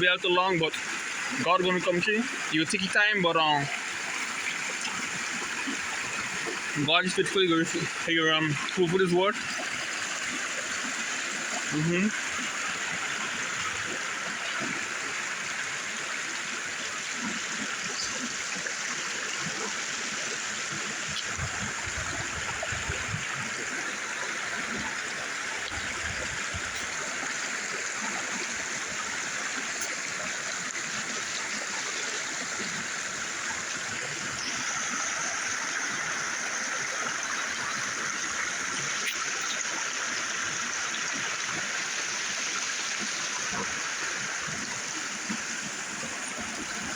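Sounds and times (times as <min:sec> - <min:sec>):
river flowing over rocks: 0:00.0 - 0:46.9.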